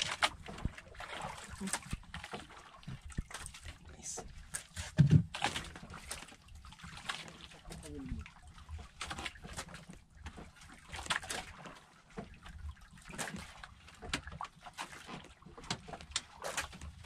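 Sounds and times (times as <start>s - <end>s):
water rumbling against hull: 0.0s - 17.0s.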